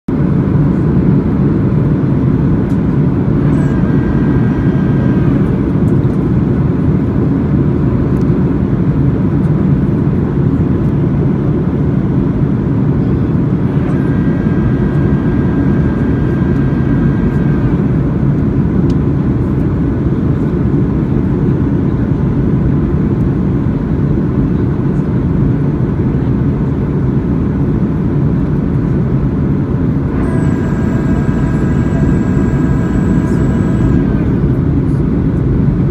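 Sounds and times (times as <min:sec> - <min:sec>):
airplane engine and airflow rumble: 0:00.1 - 0:35.9
faint constant whine: 0:00.1 - 0:35.9.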